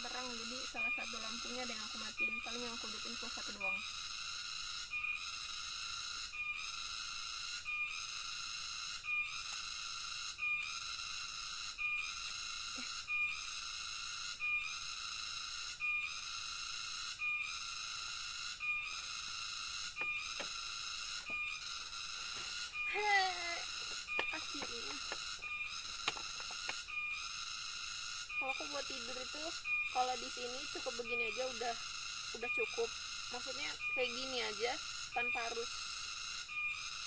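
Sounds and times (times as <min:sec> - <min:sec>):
night insects chorus: 0:00.0 - 0:37.0.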